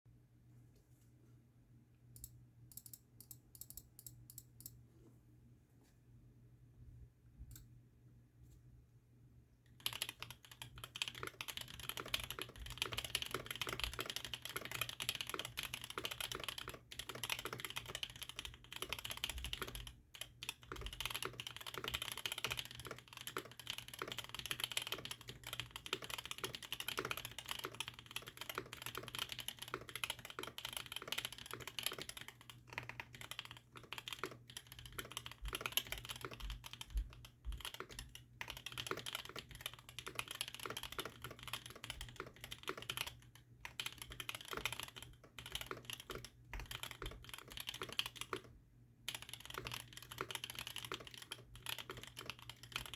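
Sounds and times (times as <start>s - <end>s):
faint low hum: 0.1s - 52.9s
mechanical keyboard typing: 9.7s - 48.5s, 49.1s - 52.9s.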